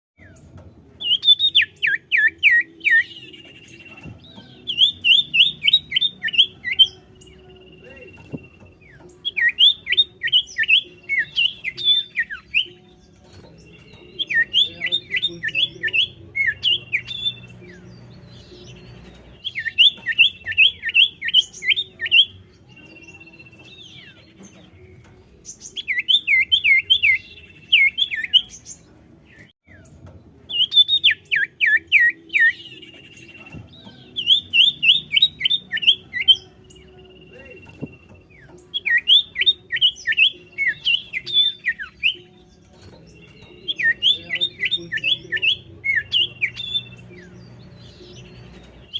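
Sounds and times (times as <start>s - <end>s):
bird whistling song: 0.2s - 48.9s.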